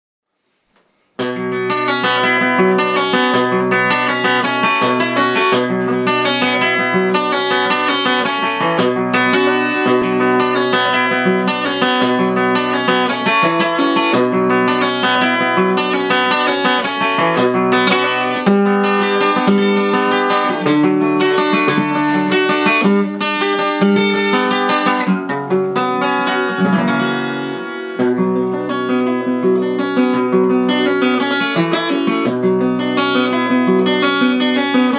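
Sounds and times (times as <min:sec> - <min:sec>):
acoustic guitar music: 0:01.2 - 0:34.9.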